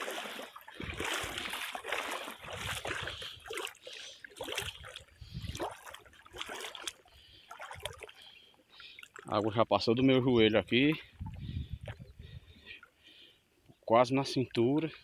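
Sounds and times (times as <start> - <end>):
water sloshing from wading: 0.0 - 15.0.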